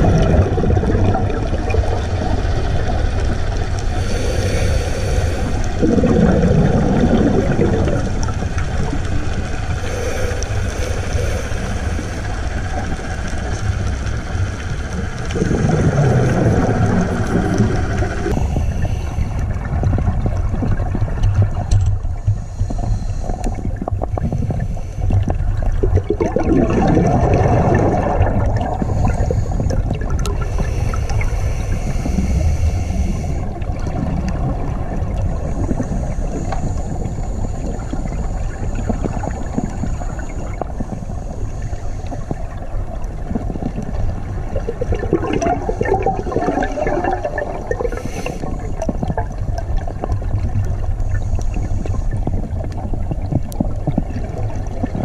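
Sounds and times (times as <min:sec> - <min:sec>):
bubbling exhaled breath: 0:00.0 - 0:55.0
underwater rush of water: 0:00.0 - 0:55.0.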